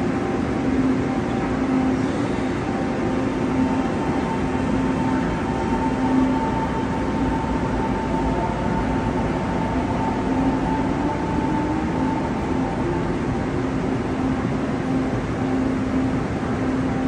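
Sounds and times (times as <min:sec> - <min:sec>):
steady hum: 0:00.0 - 0:17.0
train rumble: 0:00.0 - 0:17.0.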